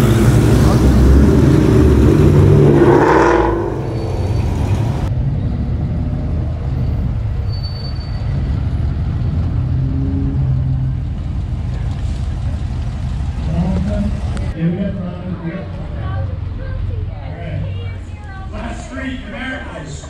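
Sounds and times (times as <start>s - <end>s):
cars rolling past slowly: 0.0s - 20.0s.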